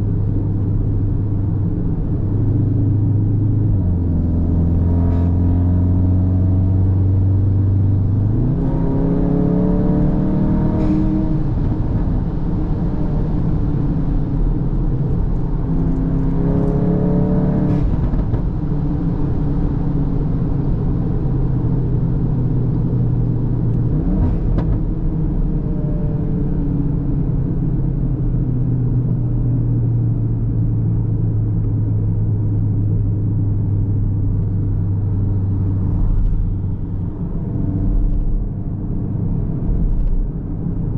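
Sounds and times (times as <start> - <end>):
car engine accelerating: 0.0 - 40.9
tyre and road noise: 0.0 - 40.9.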